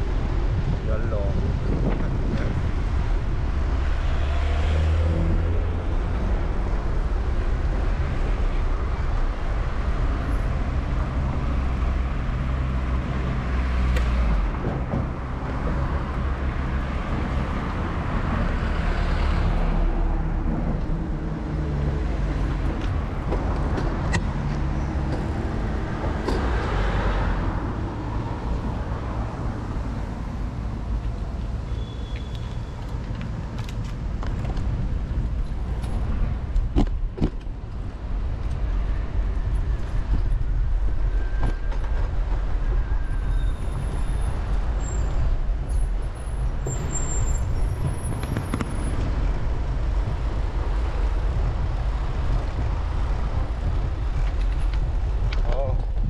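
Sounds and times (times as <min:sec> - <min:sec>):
traffic engine rumble: 0:00.0 - 0:56.0
vehicles passing close by: 0:00.0 - 0:56.0.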